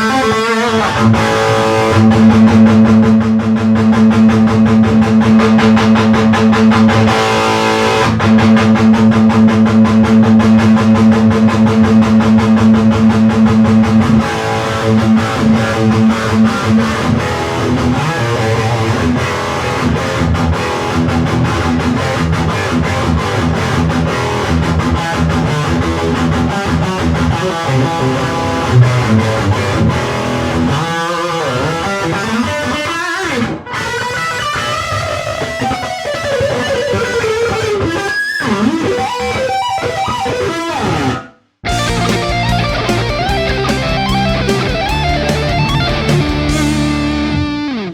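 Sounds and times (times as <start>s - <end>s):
electric guitar riffs and lead: 0.0s - 47.9s.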